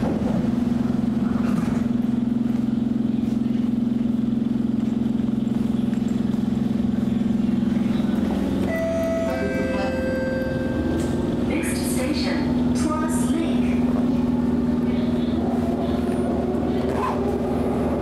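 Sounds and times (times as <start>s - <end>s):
electric hum of metro train: 0.0s - 18.0s.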